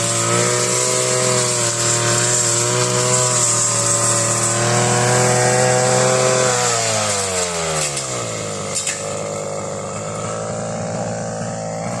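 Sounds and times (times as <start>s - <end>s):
lawn mower engine: 0.0s - 12.0s.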